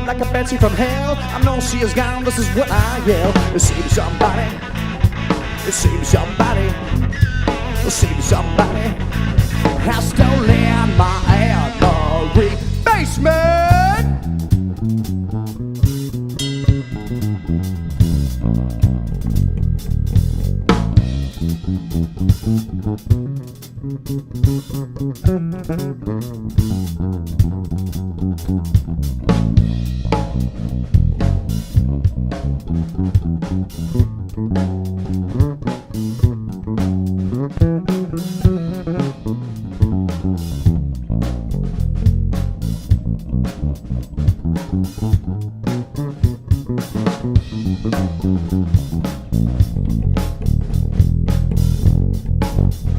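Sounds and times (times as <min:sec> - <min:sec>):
bass guitar: 0:00.0 - 0:52.9
electric guitar: 0:00.0 - 0:52.9
drum kit steady beat: 0:00.1 - 0:52.9.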